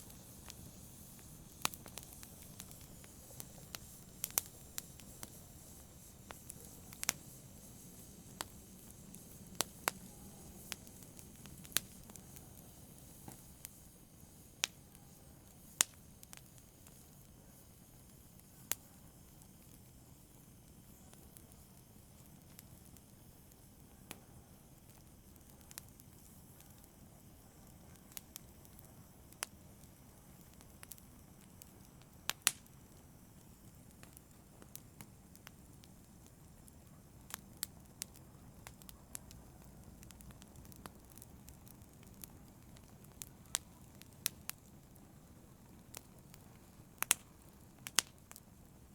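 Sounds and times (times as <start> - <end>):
soft steady hiss: 0.0 - 48.9
wood fire crackling: 0.0 - 48.9.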